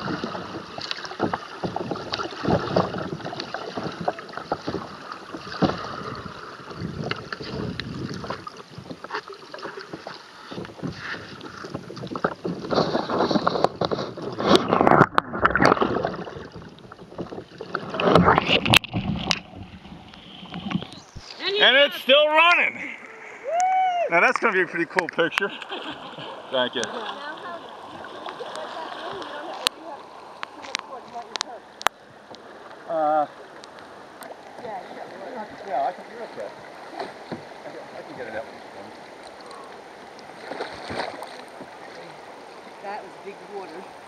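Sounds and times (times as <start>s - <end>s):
muffled underwater river rush: 0.0s - 44.0s
water splashing: 0.0s - 44.0s.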